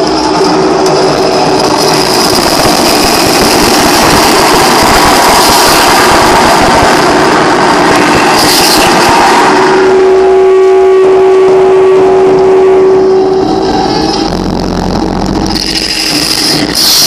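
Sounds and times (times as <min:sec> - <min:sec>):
distorted electronic noise: 0:00.0 - 0:09.8, 0:12.4 - 0:17.0
steady droning tones: 0:00.0 - 0:17.0.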